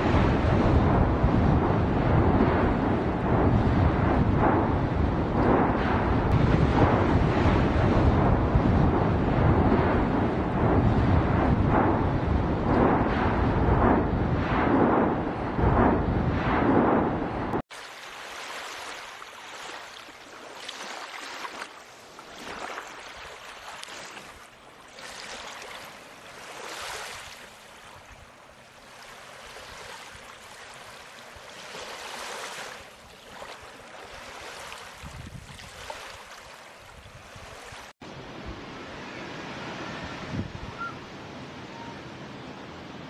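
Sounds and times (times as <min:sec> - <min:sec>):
ocean waves washing in: 0:00.0 - 0:43.0.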